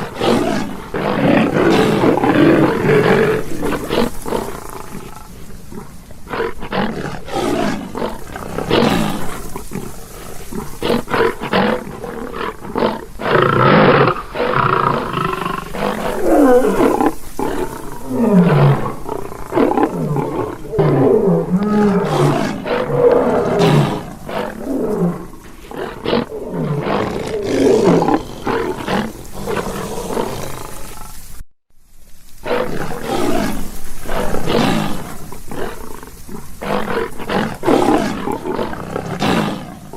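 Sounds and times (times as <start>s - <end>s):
lion roaring and grunting: 0.0s - 31.1s, 32.4s - 39.9s.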